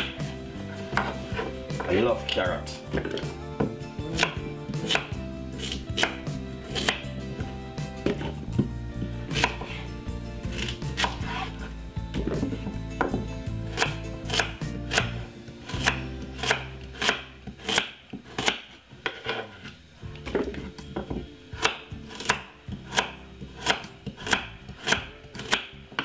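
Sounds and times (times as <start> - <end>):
knife chopping on wooden board: 0.9 - 2.3, 2.9 - 7.1, 8.0 - 8.7, 9.3 - 9.8, 10.5 - 19.5, 20.2 - 26.0.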